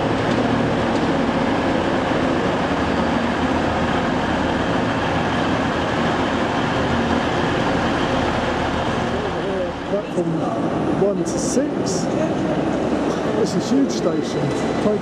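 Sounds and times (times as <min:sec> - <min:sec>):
diesel train engines droning: 0:00.0 - 0:15.0.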